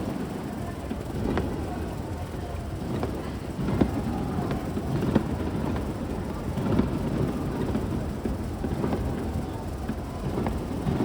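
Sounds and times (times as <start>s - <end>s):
fireworks booms and crackles: 0.9s - 1.8s, 2.8s - 11.0s.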